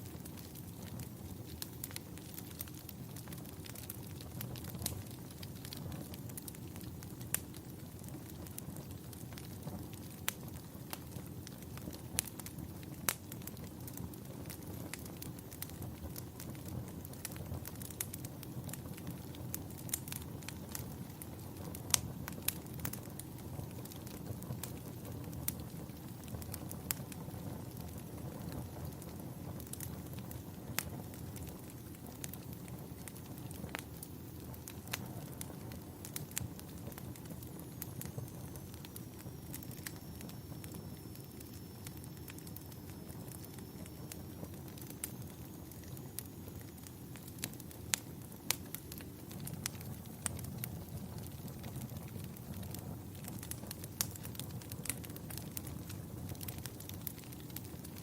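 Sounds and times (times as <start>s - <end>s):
burning wood crackling and popping: 0.0s - 58.0s
campfire flames rumbling: 0.0s - 58.0s.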